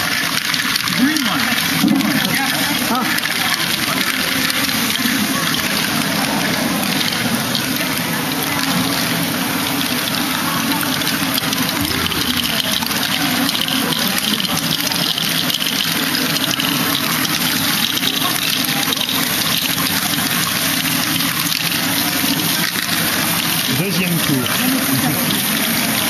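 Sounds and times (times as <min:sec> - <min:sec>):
plastic balls rolling and rattling: 0:00.0 - 0:26.0.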